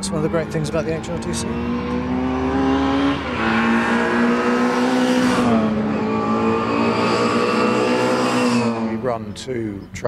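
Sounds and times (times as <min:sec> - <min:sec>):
racing car engines at speed: 0:00.0 - 0:10.0.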